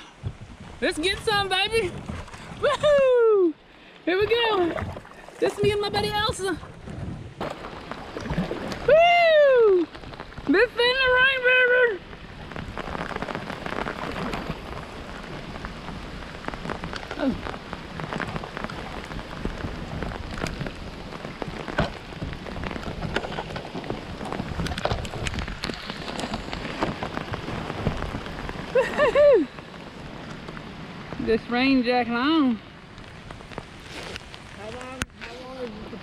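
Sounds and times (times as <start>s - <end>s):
rain falling on river: 0.0s - 36.0s.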